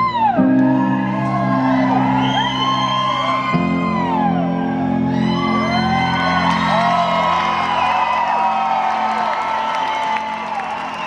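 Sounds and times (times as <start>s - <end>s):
live band sustained chords: 0.0s - 10.7s
audience whooping and whistling: 0.0s - 11.0s.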